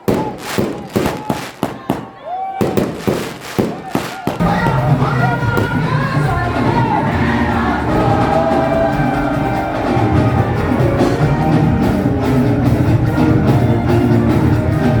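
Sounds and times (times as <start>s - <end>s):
lively drum and percussion music: 0.0s - 15.0s.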